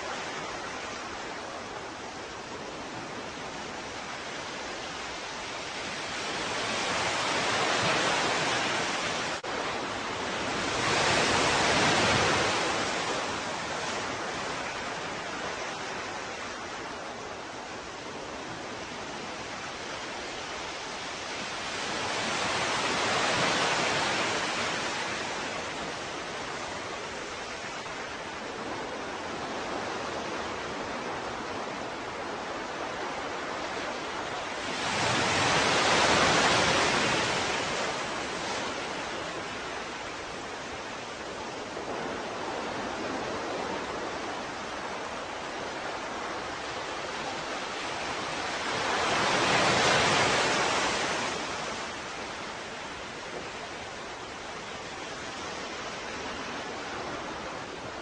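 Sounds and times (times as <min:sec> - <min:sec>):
ocean waves washing ashore: 0:00.0 - 0:58.0
surf hiss: 0:00.0 - 0:58.0.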